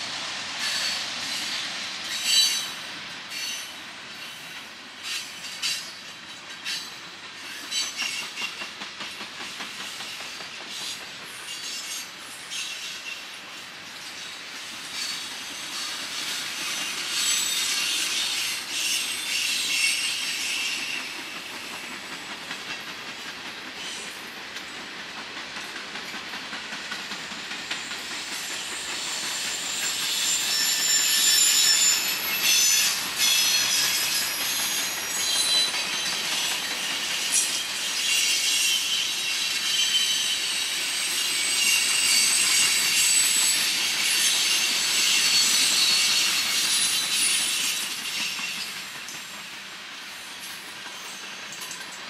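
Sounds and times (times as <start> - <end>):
train rolling rumble: 0.0 - 52.0
train wheels squealing: 0.0 - 52.0.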